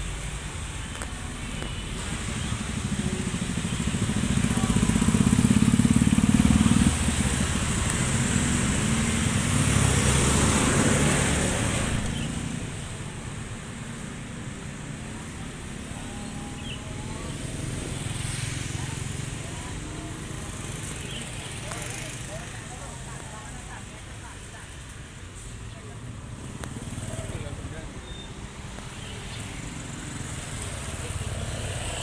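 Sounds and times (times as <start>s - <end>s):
traffic noise: 0.0s - 32.0s
motor vehicles passing close: 0.1s - 32.0s.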